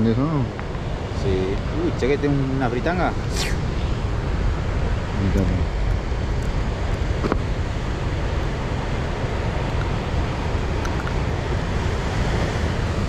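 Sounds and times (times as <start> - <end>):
sea surf on rocks: 0.0 - 13.0.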